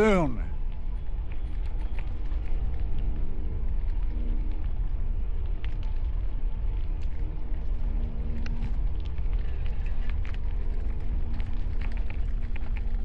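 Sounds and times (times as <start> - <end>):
small ticks: 1.3 - 13.0.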